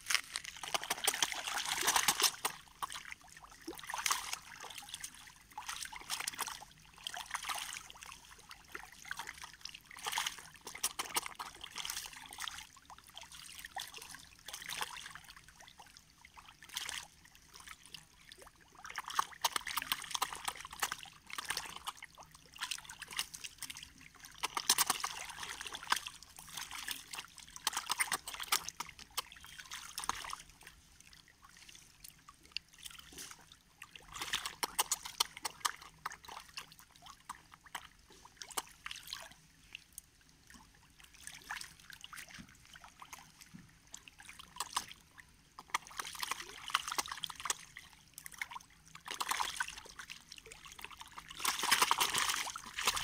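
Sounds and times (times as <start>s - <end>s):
fish splashing in water: 0.0s - 39.9s, 40.6s - 53.0s.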